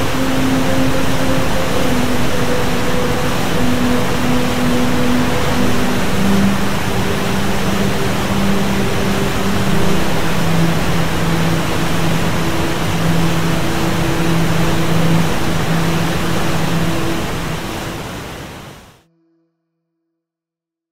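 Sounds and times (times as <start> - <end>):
faint held musical tones: 0.0 - 18.2
waterfall rushing: 0.0 - 18.9.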